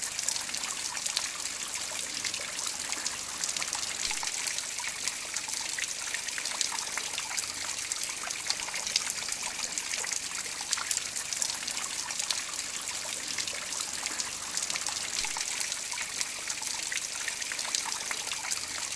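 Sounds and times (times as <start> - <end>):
water trickling onto pebbles: 0.0 - 18.9.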